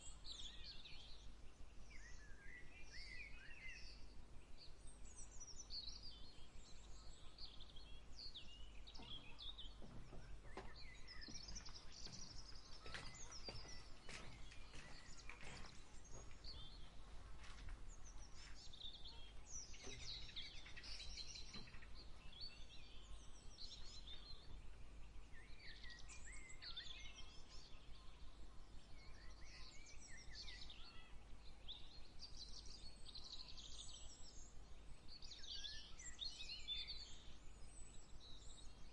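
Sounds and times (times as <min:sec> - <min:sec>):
birds chirping and singing: 0:00.0 - 0:38.8.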